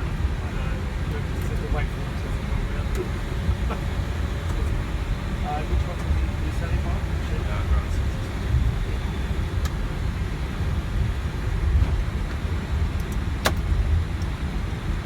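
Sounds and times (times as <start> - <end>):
airplane rolling on ground rumble: 0.0 - 15.0.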